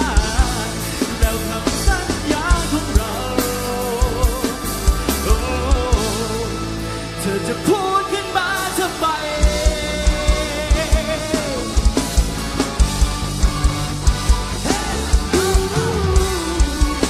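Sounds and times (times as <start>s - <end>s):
person singing: 0.0s - 12.1s, 14.3s - 17.0s
bass guitar: 0.0s - 17.0s.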